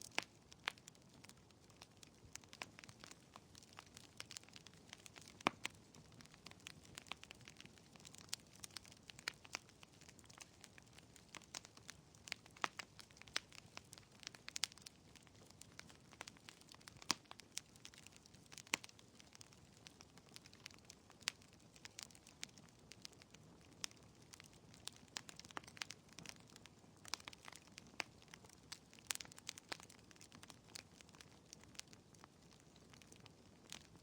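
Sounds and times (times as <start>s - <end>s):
faint steady hiss: 0.0s - 34.0s
wood fire crackling: 0.0s - 34.0s.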